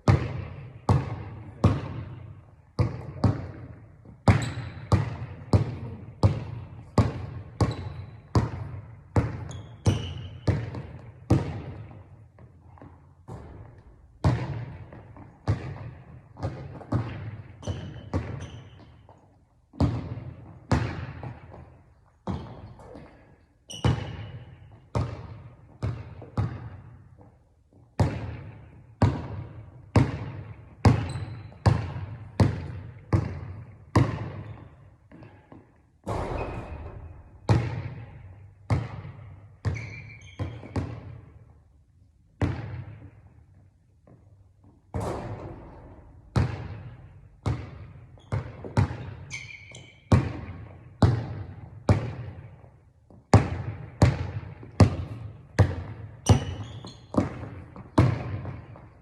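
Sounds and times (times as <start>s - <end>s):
basketball bouncing on hard floor: 0.0s - 27.3s, 28.0s - 41.4s, 42.4s - 43.3s, 44.0s - 59.0s.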